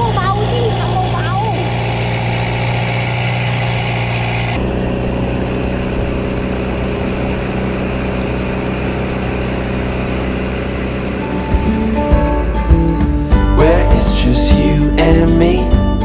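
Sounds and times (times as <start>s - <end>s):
engine running steadily: 0.0s - 15.3s.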